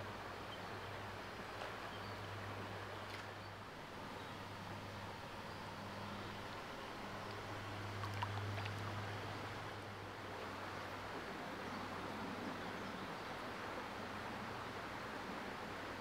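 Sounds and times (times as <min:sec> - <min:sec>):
low steady hum: 0:00.0 - 0:16.0
stream running over rocks: 0:00.0 - 0:16.0.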